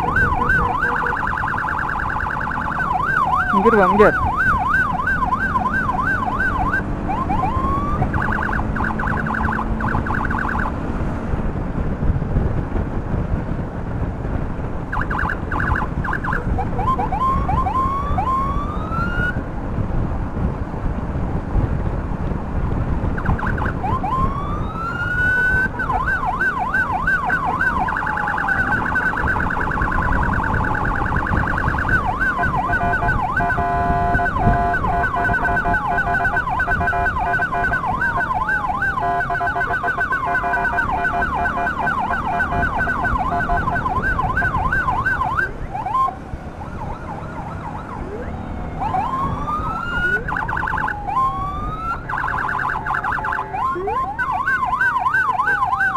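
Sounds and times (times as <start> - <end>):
electronic siren: 0.0 - 10.9, 14.9 - 19.4, 23.2 - 55.9
wind and road noise: 0.0 - 55.9.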